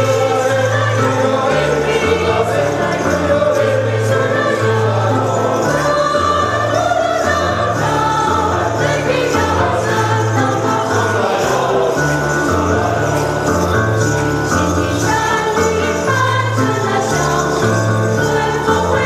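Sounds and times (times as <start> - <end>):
choir singing: 0.0 - 19.0
instrumental accompaniment: 0.0 - 19.0.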